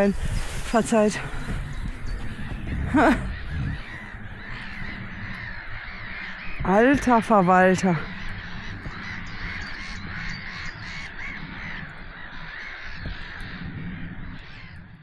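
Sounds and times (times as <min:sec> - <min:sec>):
flock of water birds calling: 0:00.0 - 0:15.0
wind rumbling on microphone: 0:00.0 - 0:15.0.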